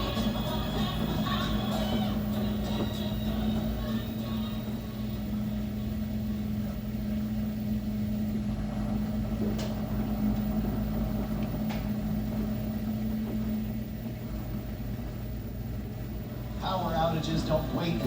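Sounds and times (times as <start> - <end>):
washing machine running: 0.0 - 18.0.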